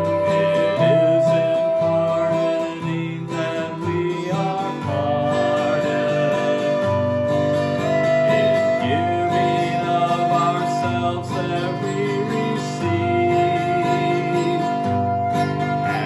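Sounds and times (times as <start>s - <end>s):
flute holding long note: 0.0s - 3.8s, 4.8s - 16.0s
strummed acoustic guitar chords: 0.0s - 16.0s.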